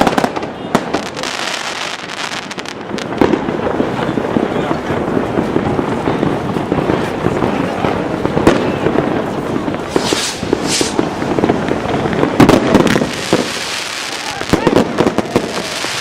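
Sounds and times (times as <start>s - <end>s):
fireworks bangs and crackling: 0.0s - 16.0s
fireworks hissing whooshes: 0.0s - 16.0s.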